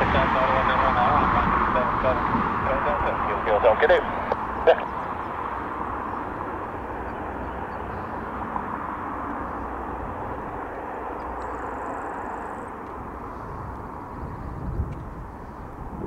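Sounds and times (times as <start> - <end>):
turboprop engines droning: 0.0 - 16.0.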